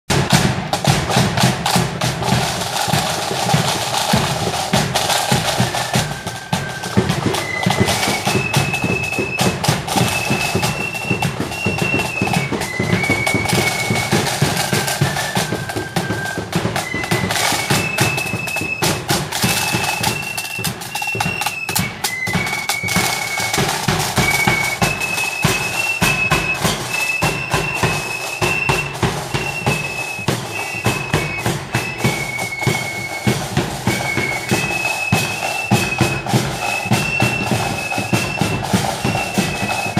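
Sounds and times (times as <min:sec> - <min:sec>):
side drums beating a march: 0:00.0 - 0:39.9
flutes playing high melody: 0:00.1 - 0:39.9.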